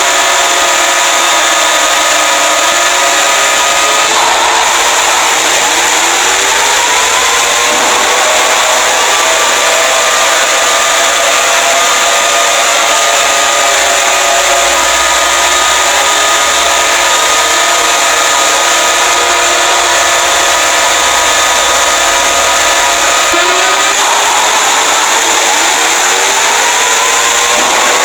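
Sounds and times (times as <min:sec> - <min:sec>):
layered electronic alarm tones: 0:00.0 - 0:28.0.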